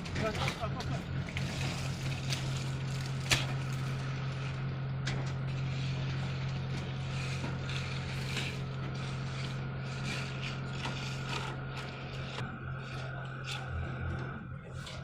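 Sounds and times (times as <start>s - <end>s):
engine low hum: 0.0s - 15.0s.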